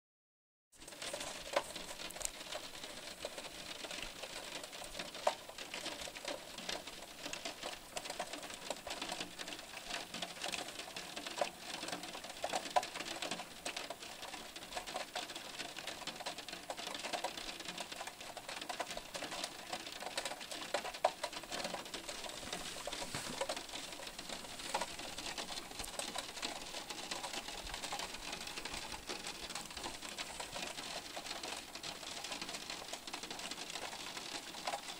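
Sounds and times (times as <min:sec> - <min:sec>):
rain patter: 0:00.8 - 0:34.9.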